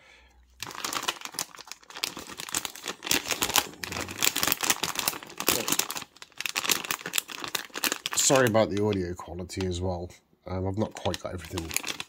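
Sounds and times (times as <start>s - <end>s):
plastic bag crinkling: 0.6s - 9.7s, 10.8s - 12.0s.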